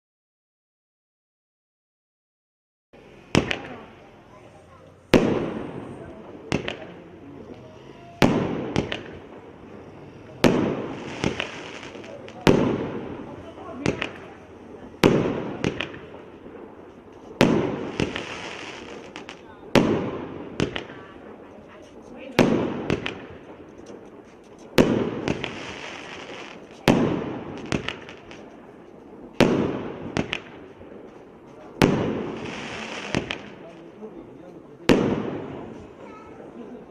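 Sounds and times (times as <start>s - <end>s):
firework hiss: 3.0s - 36.9s
loud firework shots: 3.2s - 4.2s, 5.0s - 36.9s
light firework cracks: 3.3s - 36.9s.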